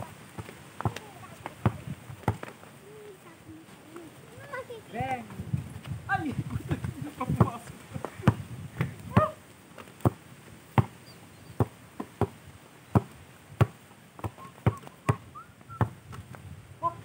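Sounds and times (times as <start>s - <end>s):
basketball bouncing on dirt: 0.0s - 2.7s, 5.2s - 16.6s.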